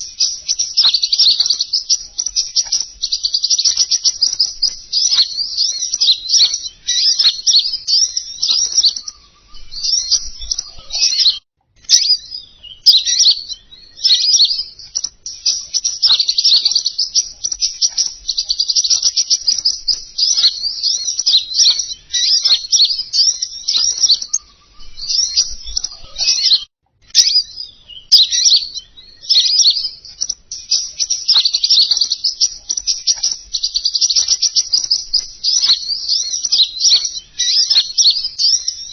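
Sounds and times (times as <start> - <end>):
recorded bird chirps and trills: 0.0 - 38.9.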